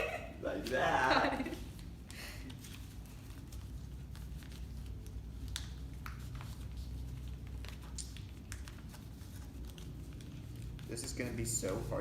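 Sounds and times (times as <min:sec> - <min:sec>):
paper folding and rustling: 0:00.0 - 0:12.0.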